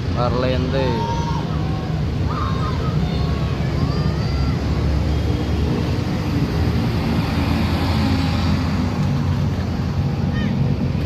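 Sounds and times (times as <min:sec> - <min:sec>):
bus and traffic rumbling past: 0:00.0 - 0:11.0.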